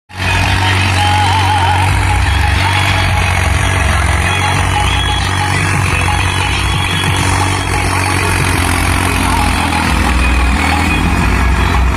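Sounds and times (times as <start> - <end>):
tractor diesel engine running: 0.1 - 11.9.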